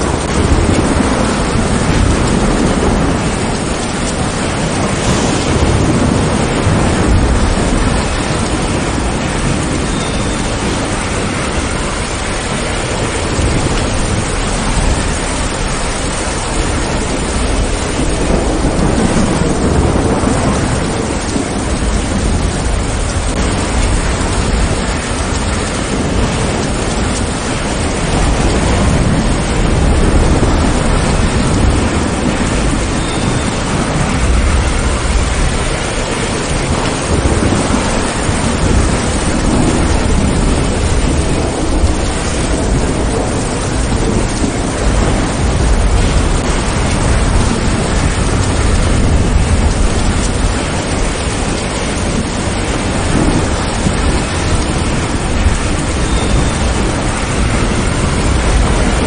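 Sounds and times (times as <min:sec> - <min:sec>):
heavy rain: 0:00.0 - 0:59.0
low rolling thunder: 0:00.0 - 0:59.0.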